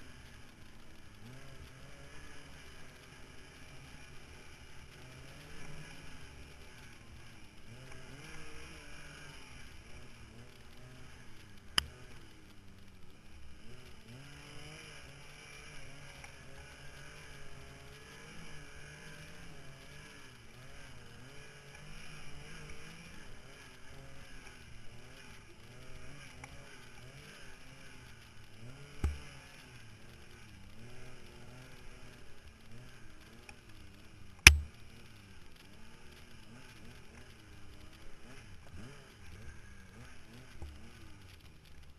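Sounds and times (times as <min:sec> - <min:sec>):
snowmobile engine running: 0:00.0 - 0:41.9.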